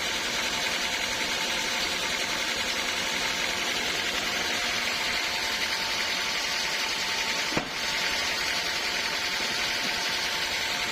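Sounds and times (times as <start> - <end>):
sawmill saw whining: 0.0 - 10.9.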